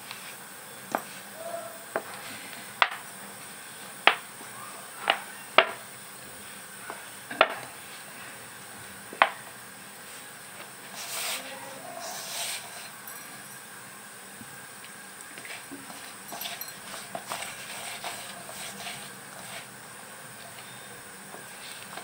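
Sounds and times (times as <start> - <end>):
dough and flour rustling: 0.0 - 22.0.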